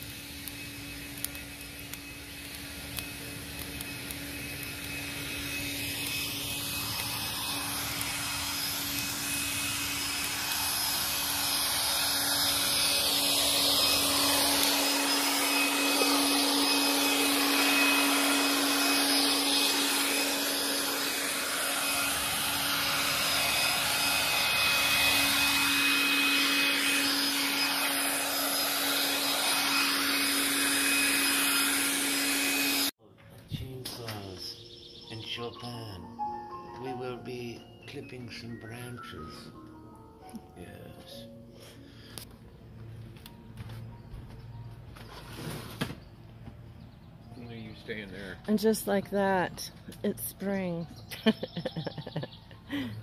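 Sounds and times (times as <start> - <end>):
leaf blower running: 0.0 - 37.4, 40.2 - 53.0.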